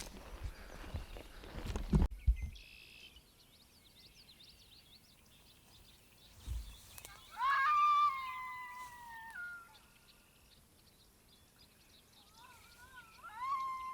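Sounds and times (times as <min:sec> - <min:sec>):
faint birds chirping: 0:00.2 - 0:13.9.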